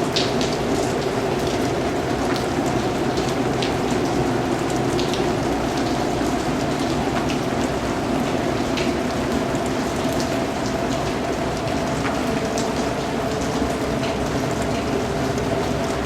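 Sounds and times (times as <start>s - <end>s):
raindrops ticking on a surface: 0.0s - 16.0s.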